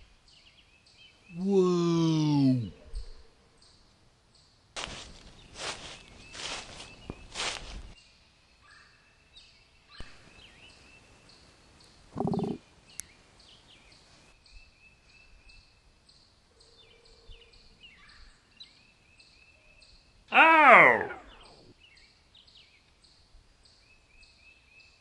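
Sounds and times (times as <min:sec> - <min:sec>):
faint background hiss: 0:00.0 - 0:25.0
small birds chirping: 0:00.0 - 0:25.0.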